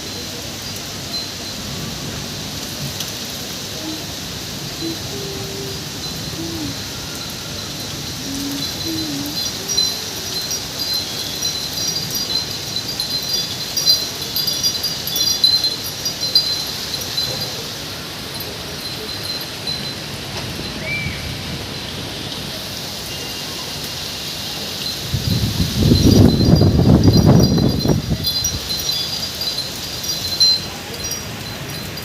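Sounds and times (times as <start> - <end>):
heavy rain hissing: 0.0 - 32.0
wind chimes tinkling: 0.0 - 32.0.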